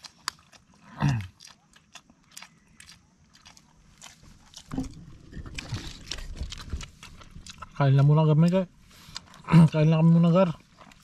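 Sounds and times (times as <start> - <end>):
chewing and biting: 0.0 - 11.0.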